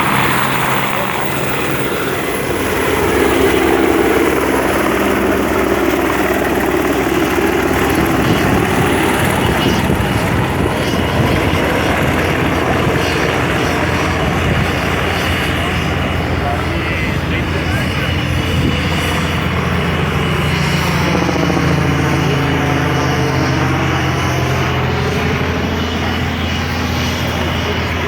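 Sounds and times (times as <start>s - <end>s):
helicopter rotor and engine: 0.0s - 28.0s.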